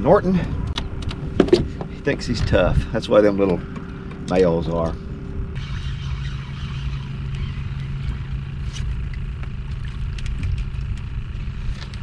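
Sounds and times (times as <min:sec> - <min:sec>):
boat motor humming: 0:00.0 - 0:12.0
low rumble: 0:00.0 - 0:12.0.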